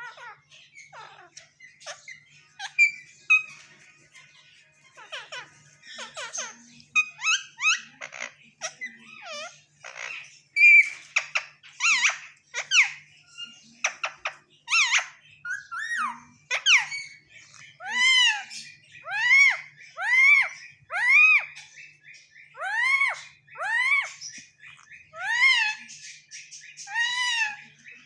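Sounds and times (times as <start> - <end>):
parakeet chirps and whistles: 0.0 - 28.0
parakeet screeching: 0.0 - 28.0.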